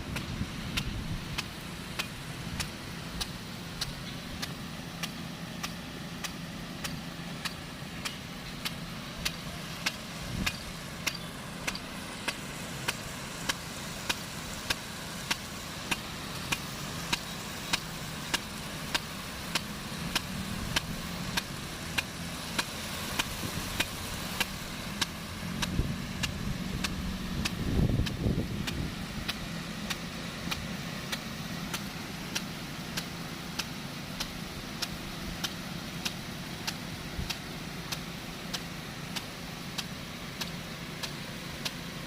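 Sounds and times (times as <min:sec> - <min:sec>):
low engine hum: 0:00.0 - 0:42.0
sprinkler arm clicking: 0:00.0 - 0:42.0.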